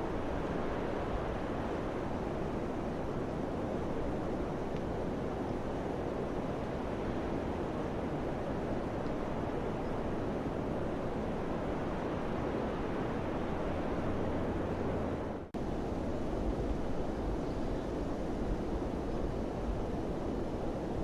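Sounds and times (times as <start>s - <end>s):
wind blowing steadily: 0.0s - 21.0s.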